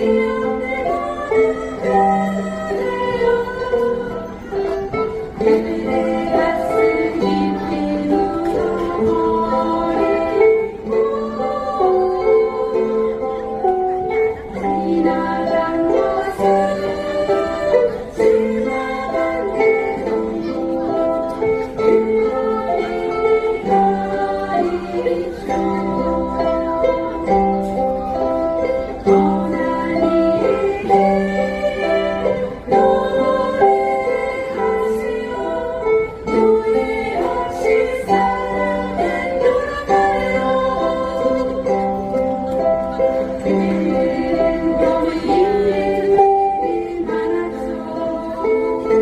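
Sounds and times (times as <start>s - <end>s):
group singing: 0.0s - 49.0s
ukulele ensemble playing: 0.0s - 49.0s.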